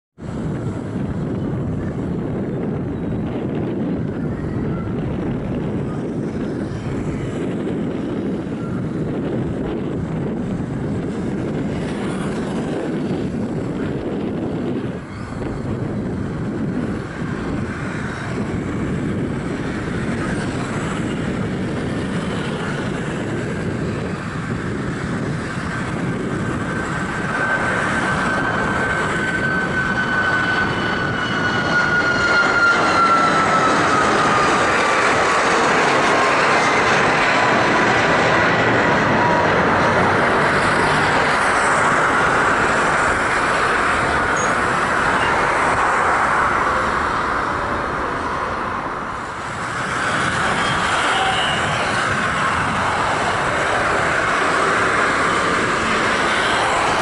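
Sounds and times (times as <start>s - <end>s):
high fan whine: 0.2s - 57.0s
jet engine roar: 0.2s - 57.0s.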